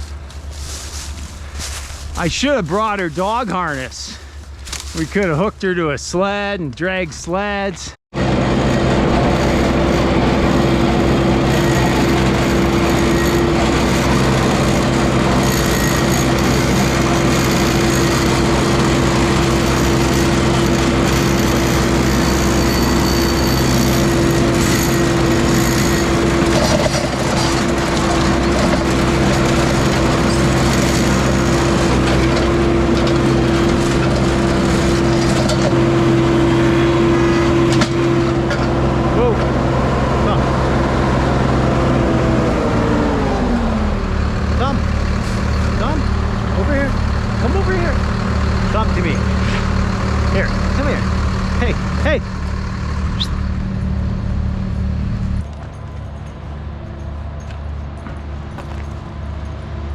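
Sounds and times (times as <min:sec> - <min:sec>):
large engine running steadily: 0:00.0 - 0:59.9.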